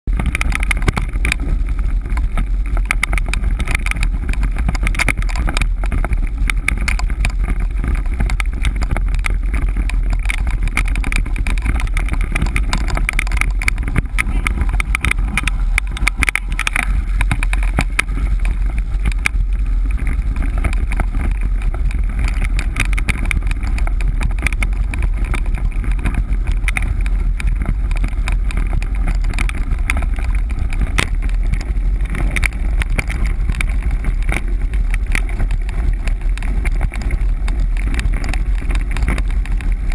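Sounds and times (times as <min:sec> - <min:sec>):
wheels rumbling on dirt: 0:00.0 - 0:39.9
wind on microphone: 0:00.0 - 0:39.9
rig knocking and rattling: 0:00.1 - 0:39.9.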